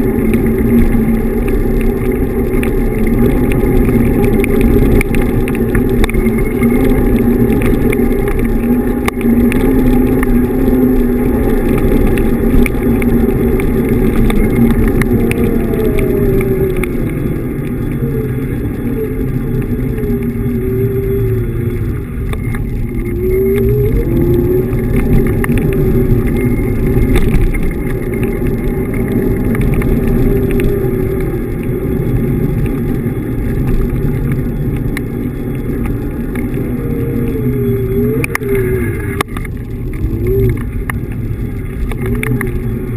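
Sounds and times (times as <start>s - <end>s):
electric motor whine: 0.0s - 42.9s
wind and tyre rumble: 0.0s - 42.9s.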